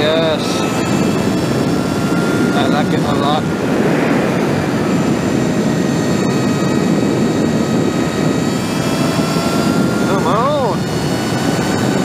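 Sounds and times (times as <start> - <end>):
electric motor whine: 0.0 - 12.0
wind rushing over microphone: 0.0 - 12.0.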